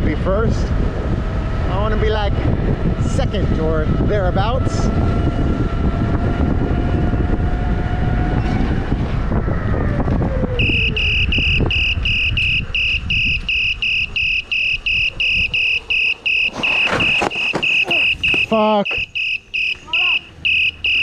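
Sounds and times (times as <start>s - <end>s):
road rumble: 0.0s - 21.0s
wind: 0.0s - 21.0s.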